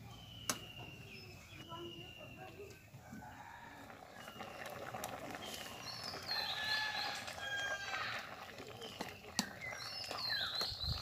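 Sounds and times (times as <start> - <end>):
birds chirping and whistling: 0.0 - 3.4, 4.1 - 8.0, 8.7 - 11.0.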